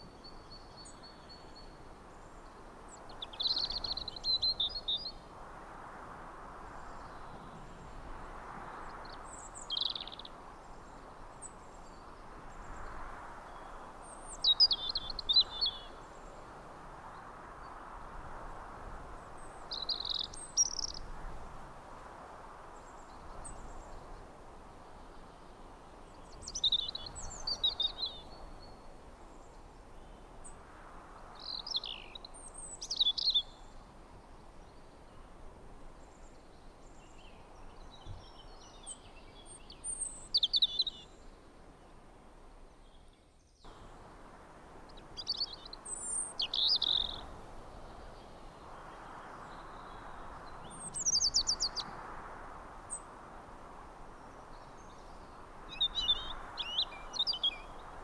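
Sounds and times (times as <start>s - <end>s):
songbirds chirping: 0.0s - 5.3s, 6.6s - 58.0s
steady background hiss: 0.0s - 58.0s.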